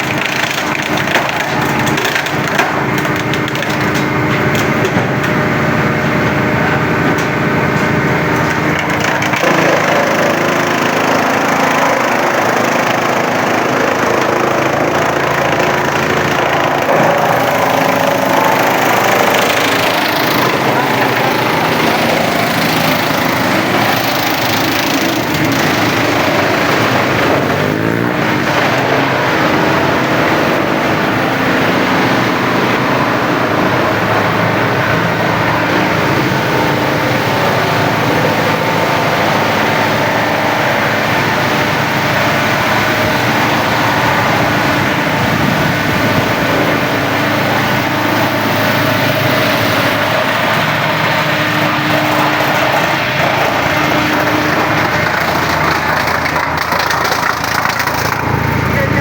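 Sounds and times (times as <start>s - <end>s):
wood chipper engine drone: 0.0s - 59.0s.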